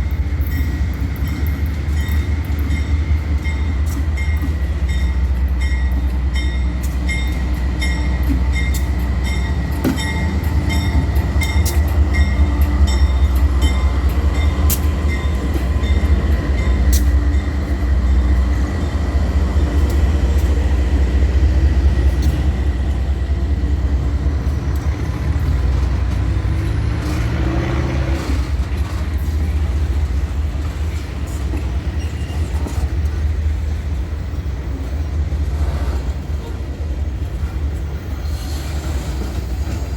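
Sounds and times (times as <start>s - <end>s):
freight train rumbling past: 0.0s - 39.9s
train wheels clacking: 0.0s - 39.9s.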